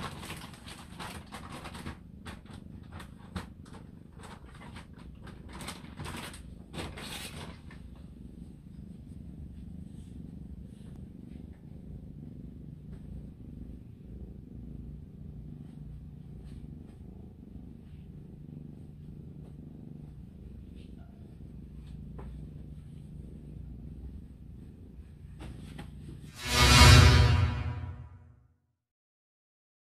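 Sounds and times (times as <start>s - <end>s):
cat purring: 0.0s - 26.3s.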